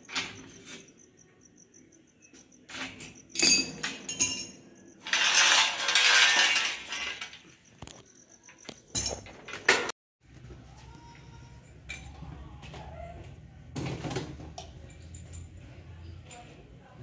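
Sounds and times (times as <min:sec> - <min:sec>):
metal tools clinking on concrete: 0:00.0 - 0:09.9, 0:11.2 - 0:12.4, 0:13.8 - 0:16.8.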